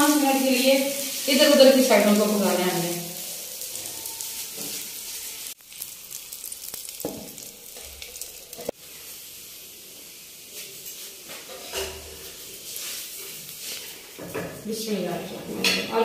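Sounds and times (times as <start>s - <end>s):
oil sizzling on a griddle: 0.0s - 15.0s.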